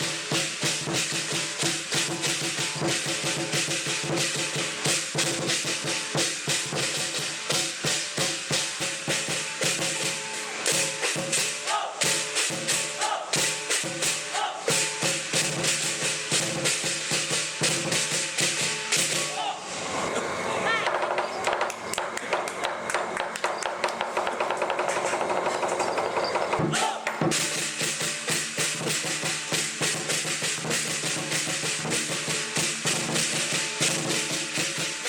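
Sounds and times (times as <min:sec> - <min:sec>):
fast drum beat: 0:00.0 - 0:19.3, 0:20.8 - 0:35.0
cymbals clashing: 0:00.0 - 0:35.0.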